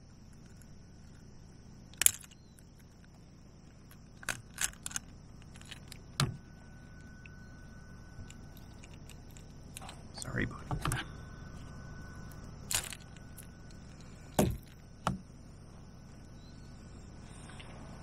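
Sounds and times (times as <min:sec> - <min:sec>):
light metallic rattles: 0:00.0 - 0:15.4.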